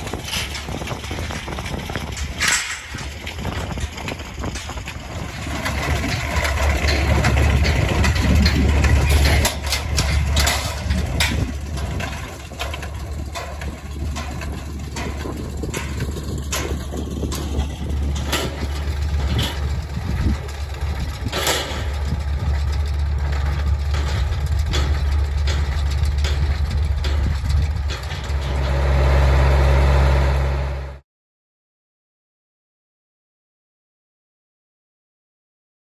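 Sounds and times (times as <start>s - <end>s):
baler clacking: 0.0s - 29.2s
tractor diesel engine running: 0.0s - 31.0s.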